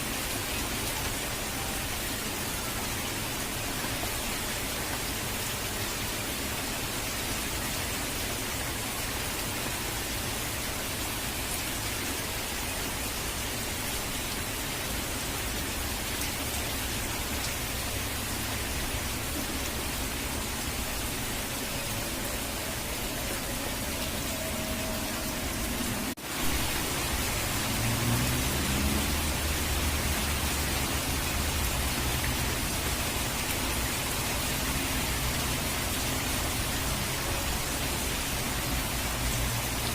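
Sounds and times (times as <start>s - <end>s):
falling rain: 0.0s - 39.9s
rushing water: 0.0s - 39.9s.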